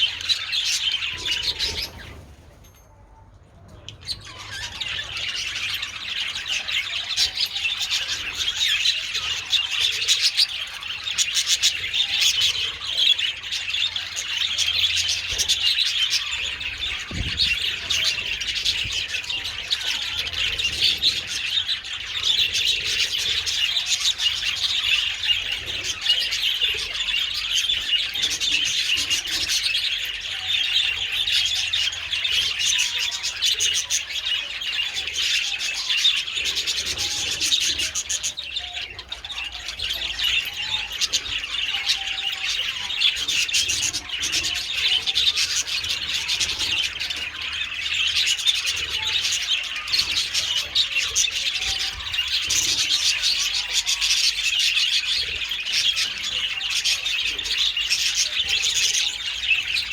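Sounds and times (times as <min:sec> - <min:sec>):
budgerigars chattering: 0:00.0 - 0:02.4, 0:03.9 - 0:59.9.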